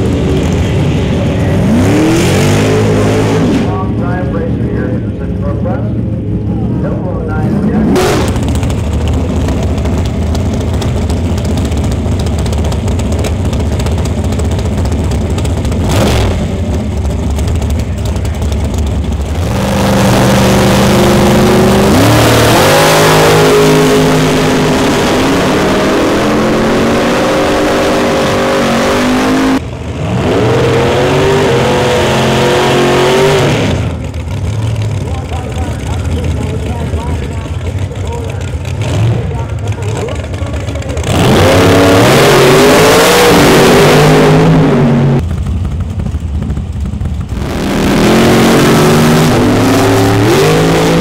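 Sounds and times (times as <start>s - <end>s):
drag racing engines revving: 0.0s - 51.0s.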